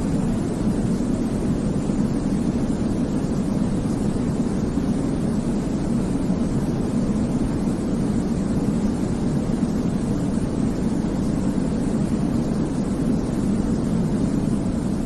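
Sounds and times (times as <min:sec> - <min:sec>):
deep white noise rushing: 0:00.0 - 0:15.0.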